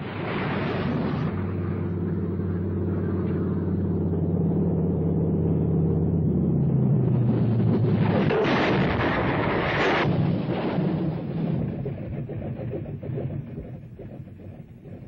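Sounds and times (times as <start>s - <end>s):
aircraft engine drone: 0.0s - 15.0s
loud rush of noise: 0.0s - 15.0s.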